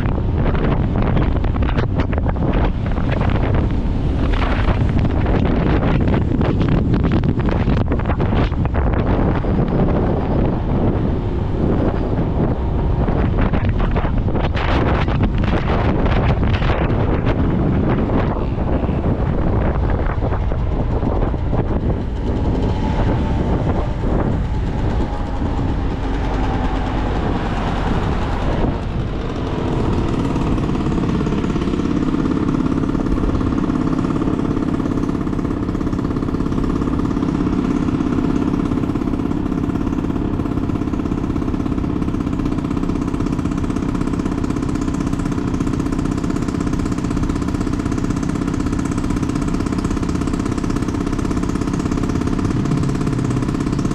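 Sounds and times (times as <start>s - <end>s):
motorcycle engine: 0.0s - 53.9s
wind rushing over microphone: 0.0s - 53.9s.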